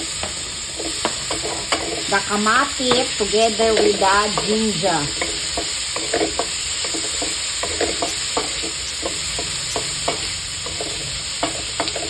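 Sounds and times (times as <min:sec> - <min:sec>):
spatula scraping a pan: 0:00.0 - 0:12.0
vegetables sizzling in oil: 0:00.0 - 0:12.0.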